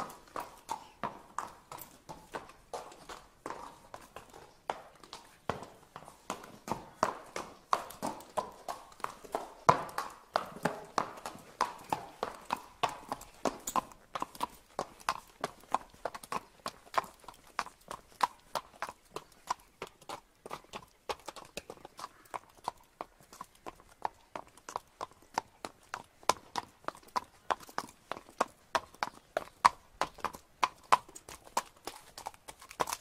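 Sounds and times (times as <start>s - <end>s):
horse hooves clip-clopping on pavement: 0.0s - 33.0s.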